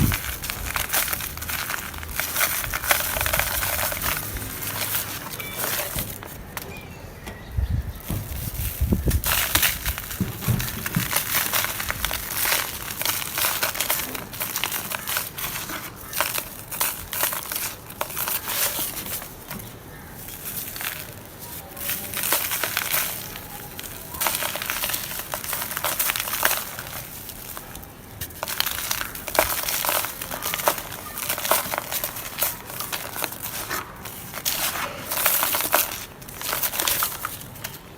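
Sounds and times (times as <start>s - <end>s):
dirt crunching and crumbling: 0.0s - 37.9s.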